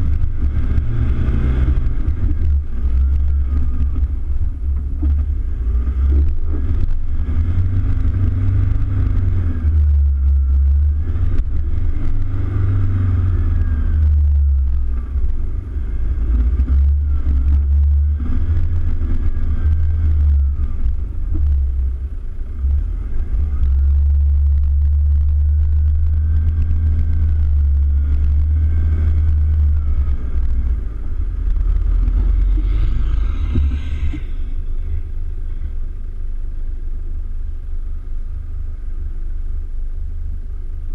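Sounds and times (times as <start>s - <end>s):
faint engine whine: 0.0s - 40.9s
vehicle engine low rumble: 0.0s - 40.9s.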